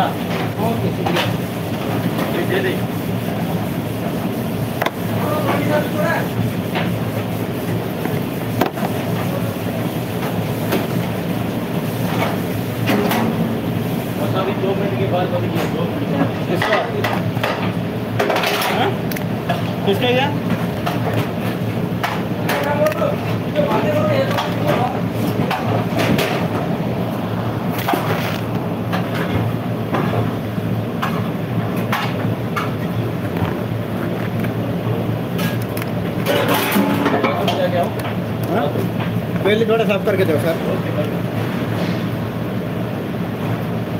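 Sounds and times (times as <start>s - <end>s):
extractor hood fan running: 0.0s - 43.9s
gas burners roaring: 0.0s - 43.9s.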